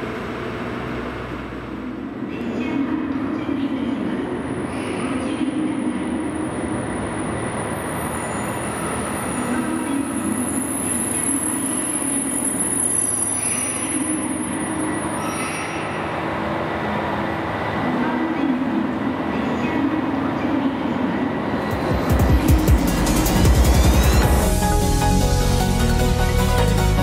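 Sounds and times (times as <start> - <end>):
passenger train rumbling: 0.0 - 27.0.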